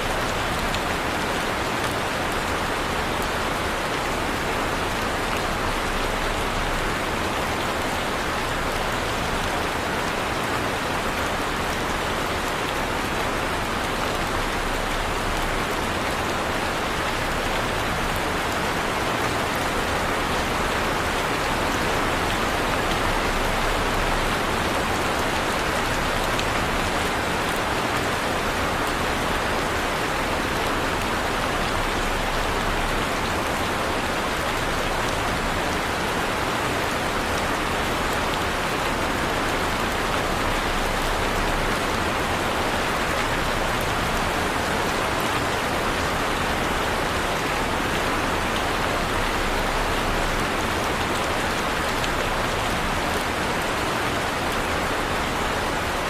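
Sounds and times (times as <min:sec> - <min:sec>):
heavy rain on a surface: 0:00.0 - 0:56.0.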